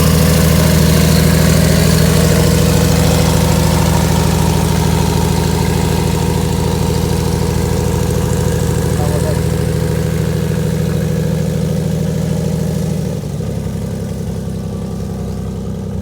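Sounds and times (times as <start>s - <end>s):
propeller engine drone: 0.0s - 13.3s.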